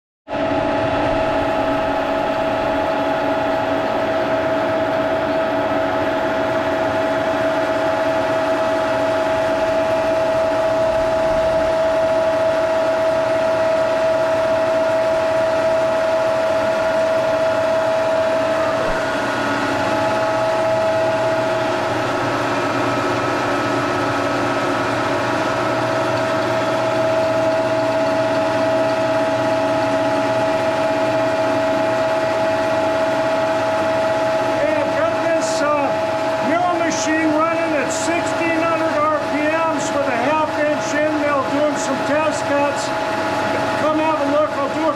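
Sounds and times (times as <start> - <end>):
high whine from drive: 0.3 - 44.9
milling machine humming: 0.3 - 44.9.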